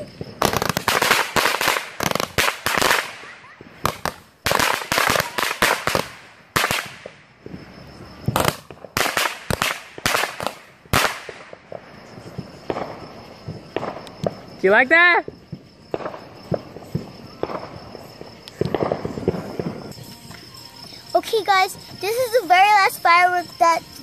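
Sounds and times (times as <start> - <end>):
fireworks bangs and pops: 0.0 - 20.1.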